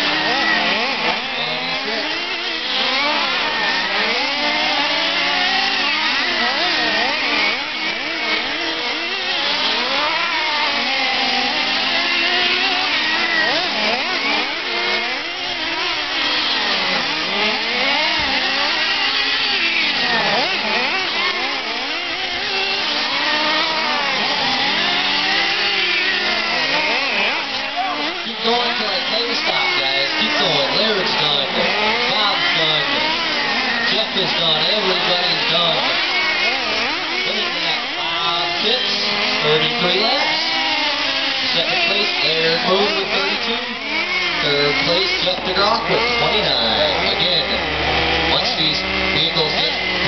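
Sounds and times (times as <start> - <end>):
small engines revving high: 0.0 - 50.0.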